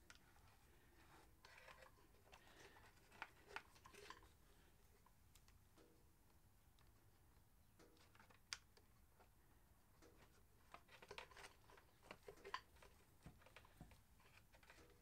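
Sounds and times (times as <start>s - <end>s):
wires and plastic clicking and rustling: 0.0s - 15.0s.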